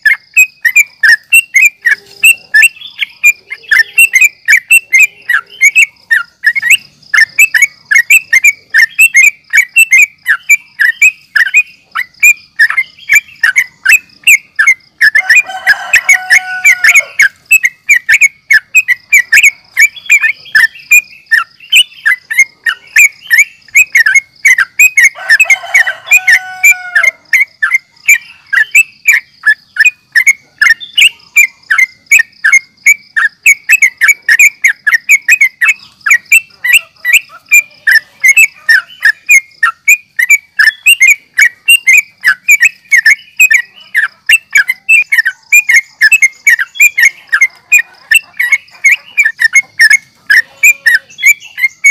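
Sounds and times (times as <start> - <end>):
harsh bird call: 0.0 - 32.2, 33.2 - 51.9
bulbul chirping song: 0.0 - 51.9.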